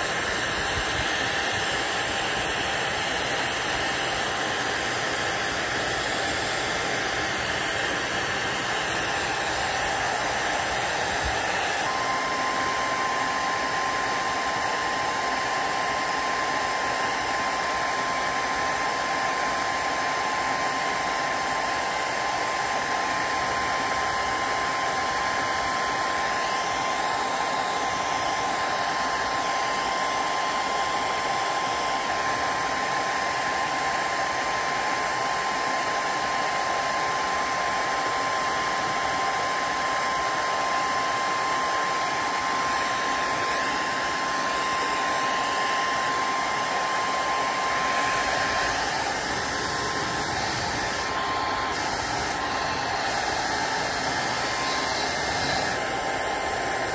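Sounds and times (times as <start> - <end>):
heat gun blowing with whine: 0.0 - 56.9.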